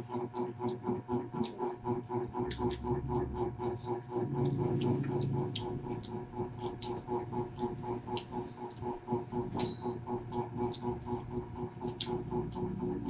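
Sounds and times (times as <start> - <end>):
pulsing hum: 0.0 - 13.0.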